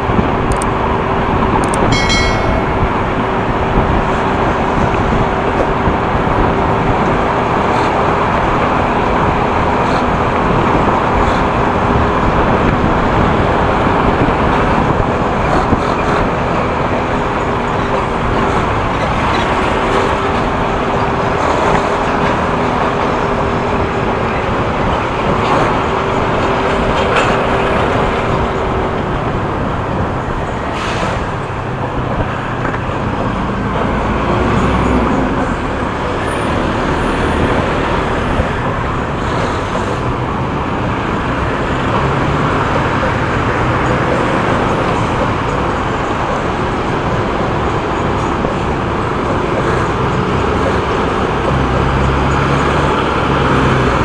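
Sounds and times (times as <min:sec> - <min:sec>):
traffic: 0:00.0 - 0:54.0
wind and road noise: 0:00.0 - 0:54.0.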